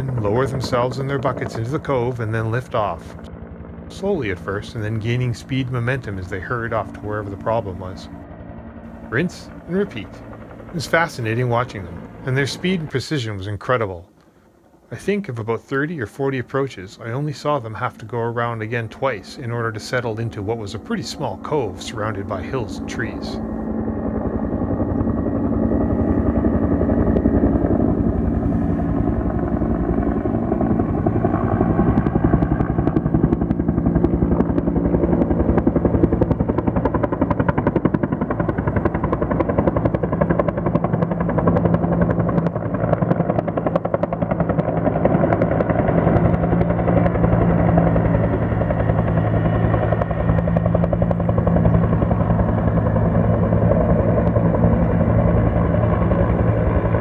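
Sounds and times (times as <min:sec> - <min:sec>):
helicopter engine drone: 0:00.0 - 0:57.0
helicopter rotor beating: 0:00.0 - 0:57.0.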